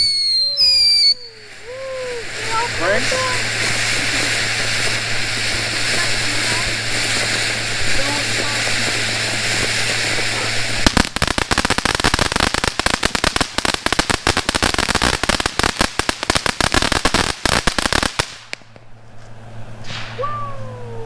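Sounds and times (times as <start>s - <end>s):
firework crackling: 0.0s - 21.0s
firework fountain hissing: 0.0s - 21.0s.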